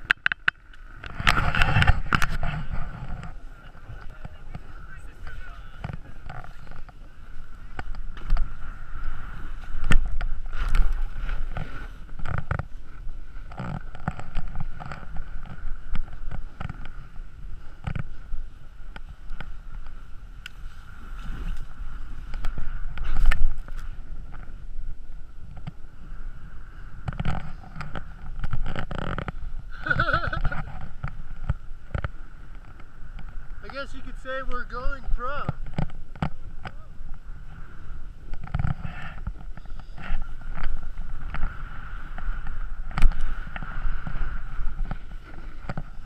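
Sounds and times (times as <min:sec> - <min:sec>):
skis scraping through snow: 0:00.9 - 0:46.0.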